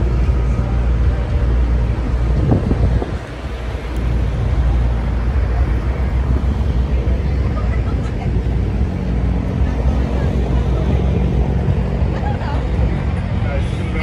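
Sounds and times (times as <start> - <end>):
diesel truck engine idling: 0.0 - 14.0
wind on microphone: 1.9 - 13.2.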